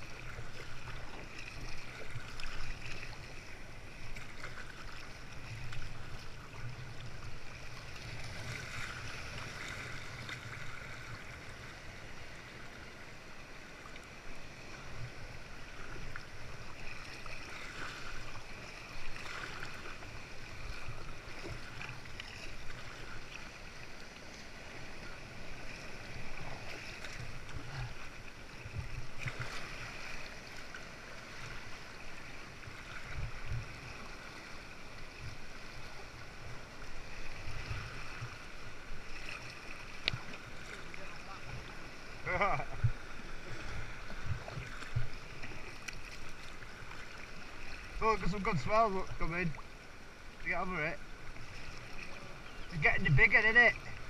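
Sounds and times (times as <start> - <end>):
water splashing around kayak: 0.0 - 54.0.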